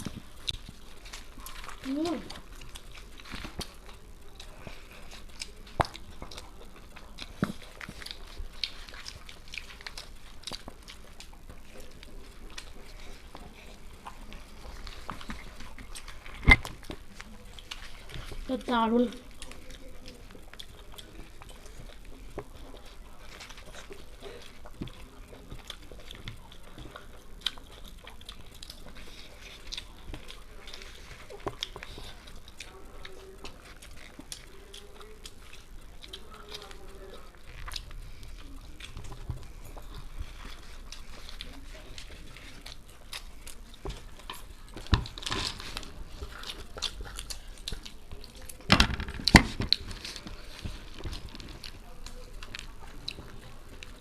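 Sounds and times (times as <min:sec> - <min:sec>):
people chewing food: 0:00.0 - 0:54.0
small crackles and clicks: 0:00.0 - 0:54.0.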